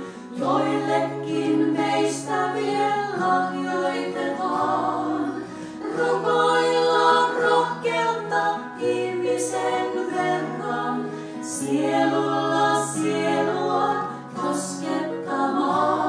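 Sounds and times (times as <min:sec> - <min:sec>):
acoustic guitars playing: 0:00.0 - 0:16.0
women singing in harmony: 0:00.0 - 0:16.0.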